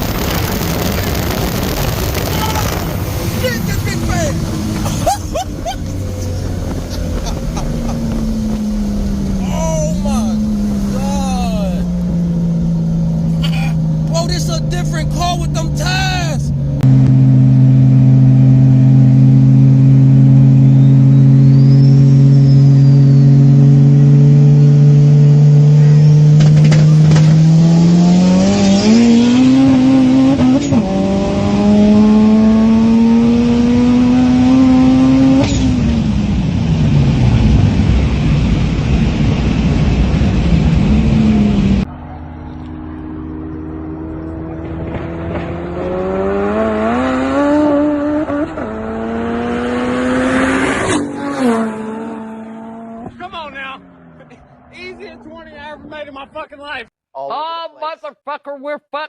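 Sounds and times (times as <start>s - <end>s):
loud car engine revving: 0.0s - 56.1s.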